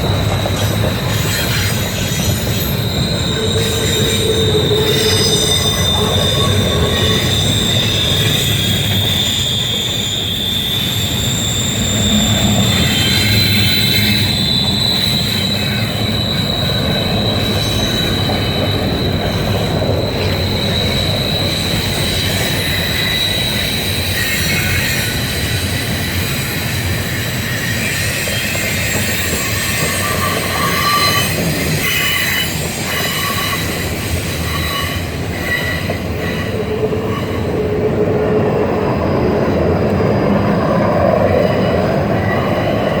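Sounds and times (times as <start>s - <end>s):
high-pitched wheel squeal: 0.0s - 43.0s
train wheels rumbling on rail: 0.0s - 43.0s.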